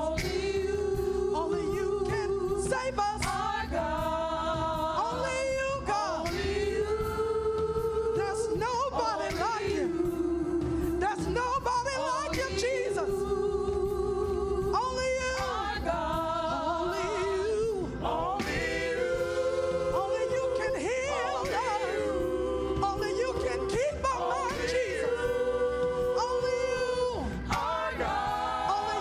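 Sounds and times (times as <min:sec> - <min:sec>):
gospel singing: 0:00.0 - 0:29.0
steady music accompaniment: 0:00.0 - 0:29.0.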